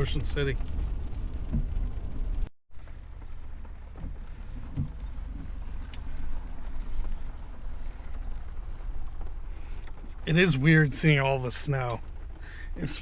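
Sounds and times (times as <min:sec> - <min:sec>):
vehicle engine and tyres rumbling: 0:00.0 - 0:13.0.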